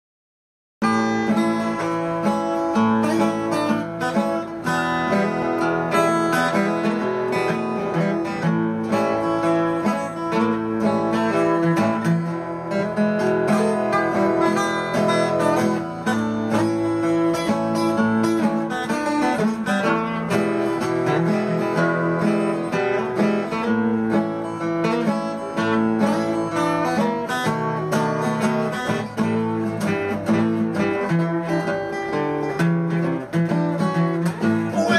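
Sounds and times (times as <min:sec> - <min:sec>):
acoustic guitar music: 0:00.8 - 0:34.9.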